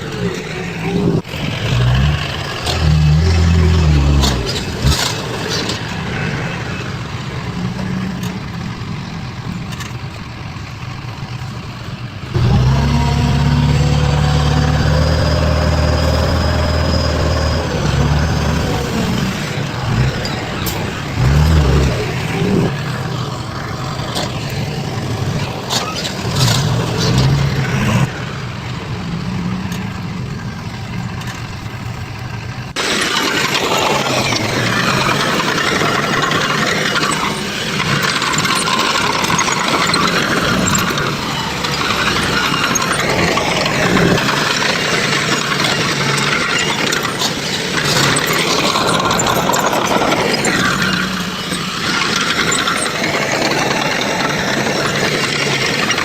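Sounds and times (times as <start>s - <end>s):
construction machinery diesel engines: 0.0s - 56.0s
loud noisy machine: 0.0s - 56.0s.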